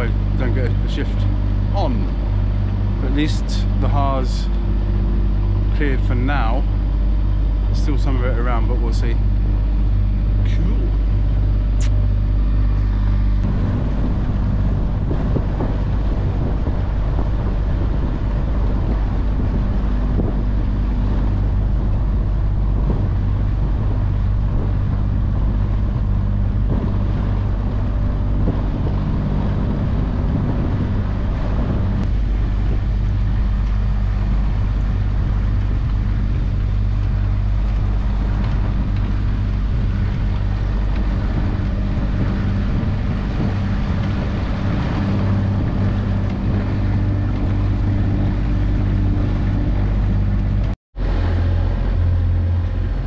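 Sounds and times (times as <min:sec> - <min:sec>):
boat engine droning: 0:00.0 - 0:53.0
wind buffeting microphone: 0:00.0 - 0:53.0.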